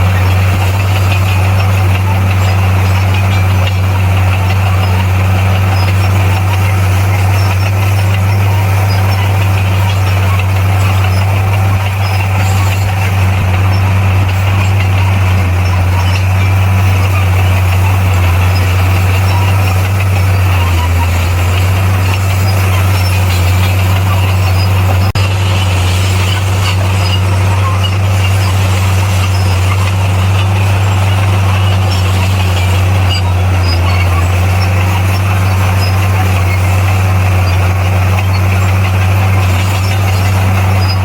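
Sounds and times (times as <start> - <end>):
bulldozer diesel engine drone: 0.0 - 41.0.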